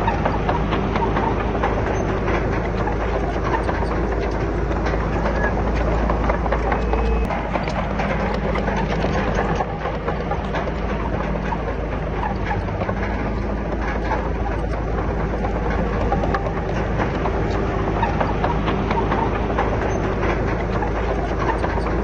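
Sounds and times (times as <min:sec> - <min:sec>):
diesel machinery running: 0:00.0 - 0:22.0
metal clanking and rattling: 0:00.0 - 0:22.0.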